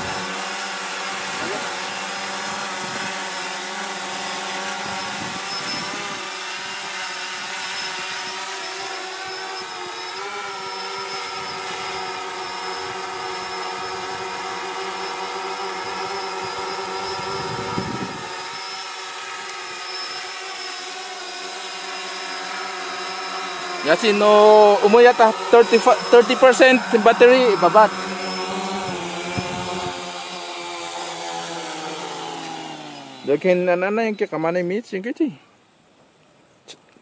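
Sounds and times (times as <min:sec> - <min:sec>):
drone buzzing whine: 0:00.0 - 0:34.8.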